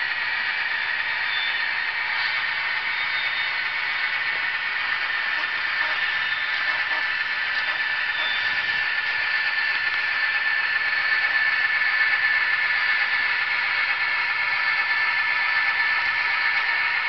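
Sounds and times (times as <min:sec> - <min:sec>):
model train whirring hiss: 0:00.0 - 0:17.0
thin motor whine: 0:00.0 - 0:17.0.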